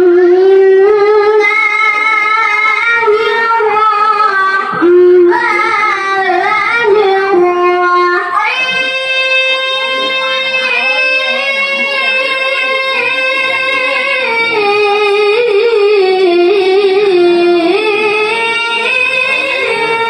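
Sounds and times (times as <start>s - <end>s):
boy reciting melodically into microphone: 0.0s - 20.0s.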